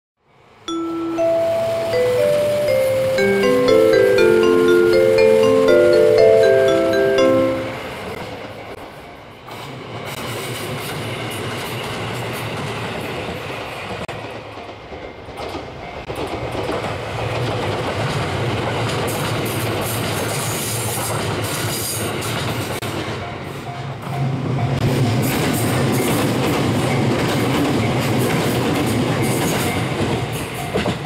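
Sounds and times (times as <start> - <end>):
electric trains passing: 0.7 - 31.0.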